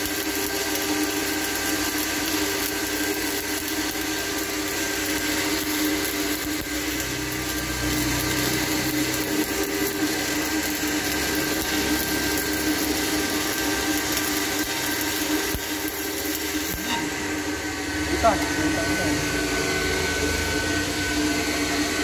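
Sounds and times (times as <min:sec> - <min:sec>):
welding arc hissing and crackling: 0:00.0 - 0:22.0.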